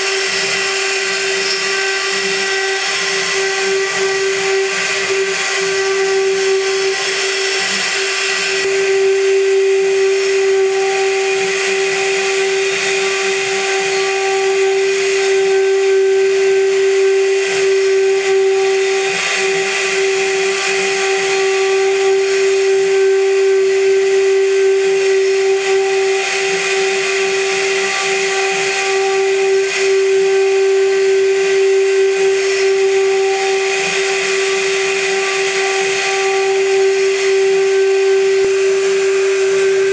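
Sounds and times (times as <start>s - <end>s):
hiss of cutting metal: 0.0s - 39.9s
milling machine spindle whine: 0.0s - 39.9s.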